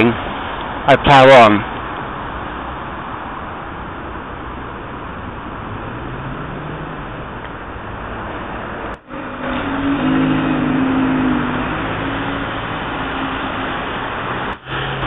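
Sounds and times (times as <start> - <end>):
urban road traffic: 0.0 - 15.0
passing vehicle engine hum: 1.6 - 15.0.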